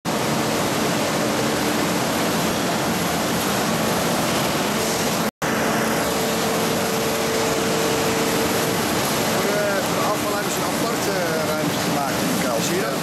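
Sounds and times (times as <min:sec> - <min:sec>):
higher hum: 0:00.1 - 0:10.7
industrial rushing din: 0:00.1 - 0:13.0.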